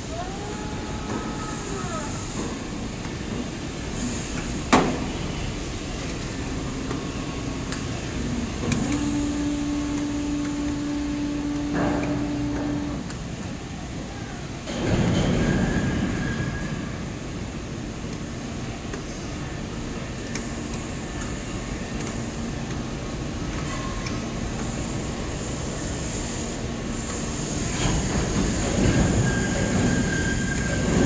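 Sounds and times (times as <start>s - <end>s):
molding machine mechanical hum: 0.0s - 31.0s.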